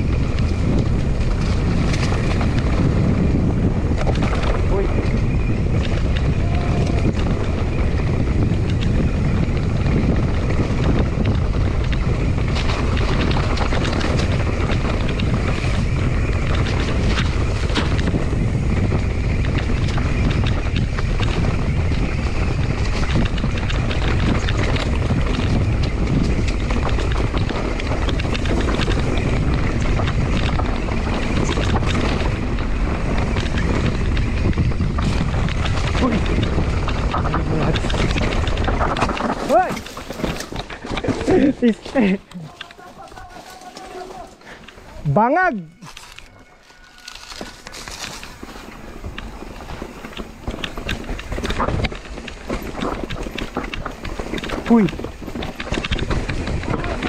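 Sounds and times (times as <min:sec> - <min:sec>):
bike clicks and knocks: 0:00.0 - 0:45.0, 0:45.8 - 0:57.0
mountain bike rumbling on dirt: 0:00.0 - 0:57.0
wind buffeting microphone: 0:00.0 - 0:57.0.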